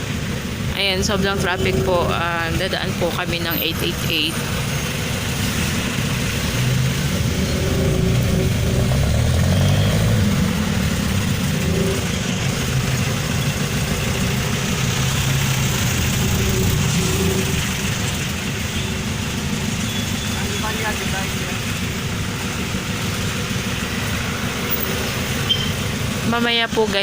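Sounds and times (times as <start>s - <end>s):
traffic engines idling: 0.0s - 27.0s.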